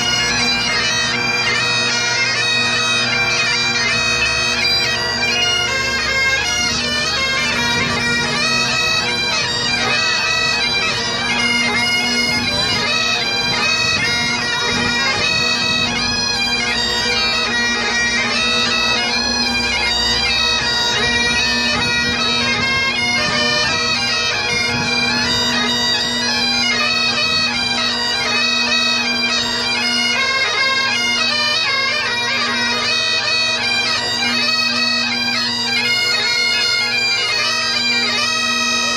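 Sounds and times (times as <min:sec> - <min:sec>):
bagpipes playing a tune: 0:00.0 - 0:38.9.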